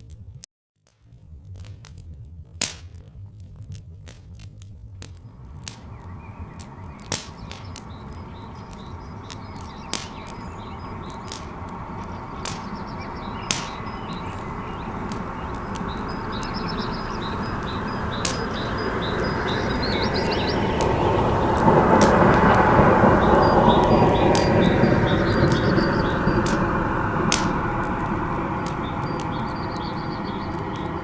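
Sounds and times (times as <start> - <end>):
wood fire crackling: 3.8 - 31.0
birds chirping: 5.3 - 31.0
steam train rumble: 5.3 - 31.0.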